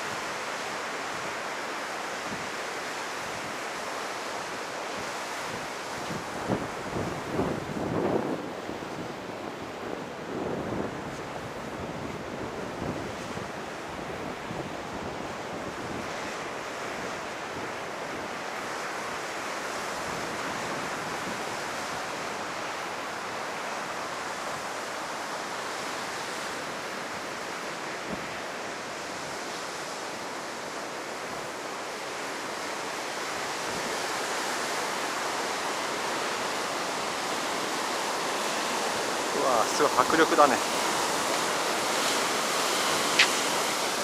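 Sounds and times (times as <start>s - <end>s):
heavy surf breaking on a beach: 0.0s - 44.0s.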